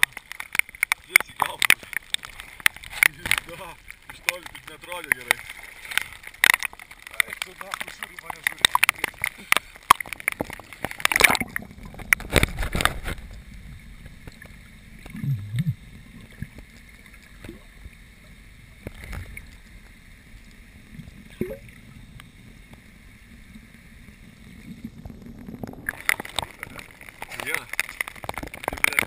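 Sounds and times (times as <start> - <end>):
muffled underwater hush: 0.0 - 29.0
water splashing and slapping: 0.0 - 29.0.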